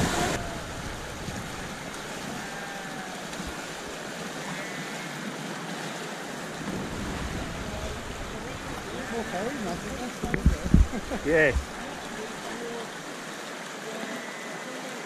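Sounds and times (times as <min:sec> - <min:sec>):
river water rushing over gravel: 0:00.0 - 0:15.0.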